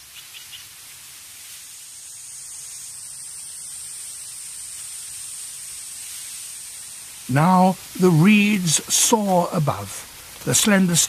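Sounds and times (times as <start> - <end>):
wind rustling in dry reeds: 0.0 - 11.0.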